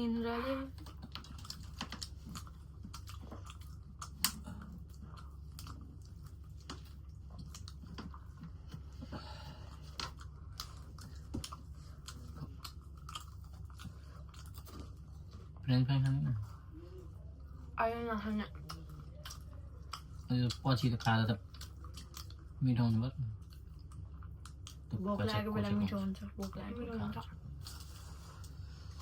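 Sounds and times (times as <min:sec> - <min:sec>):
chewing and crunching: 0:00.3 - 0:29.0.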